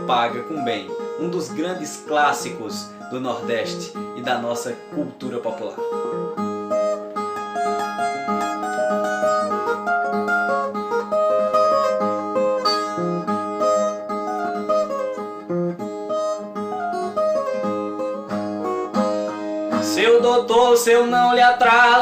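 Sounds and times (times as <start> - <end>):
plucked viola melody: 0.0 - 22.0.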